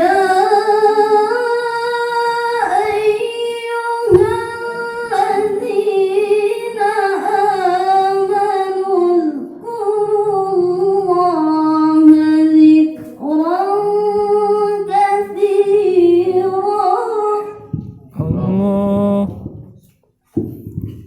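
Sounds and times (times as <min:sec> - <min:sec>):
woman chanting melodically: 0:00.0 - 0:19.6.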